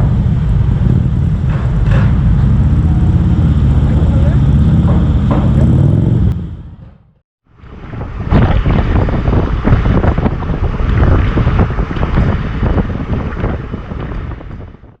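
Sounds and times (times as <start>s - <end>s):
heavy wind buffeting microphone: 0.0s - 6.9s, 7.5s - 15.0s.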